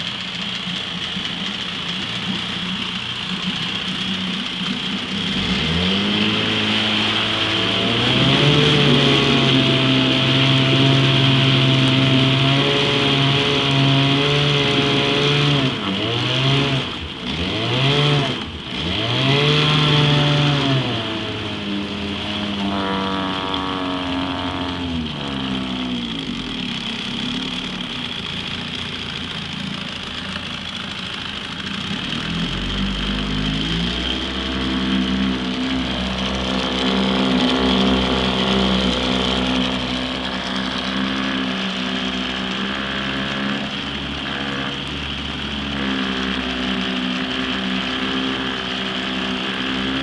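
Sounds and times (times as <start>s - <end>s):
outboard motor running: 0.0s - 50.0s.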